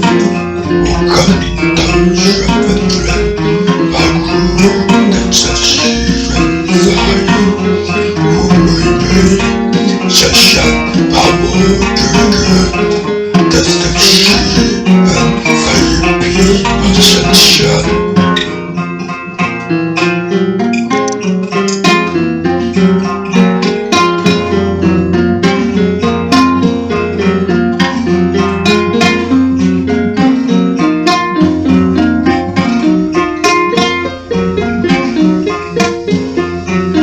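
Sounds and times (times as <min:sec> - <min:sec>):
acoustic guitar picking: 0:00.0 - 0:37.0.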